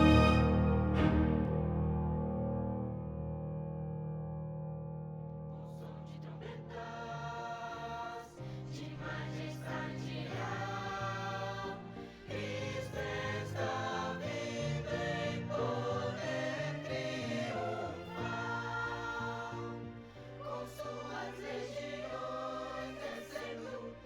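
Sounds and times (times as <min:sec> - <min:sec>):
choir singing a hymn: 0:00.0 - 0:01.9, 0:05.6 - 0:24.0.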